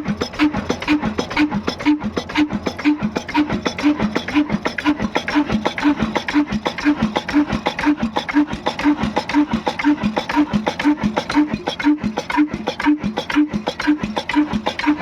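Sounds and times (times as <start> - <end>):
diesel engine knocking: 0.0 - 15.0.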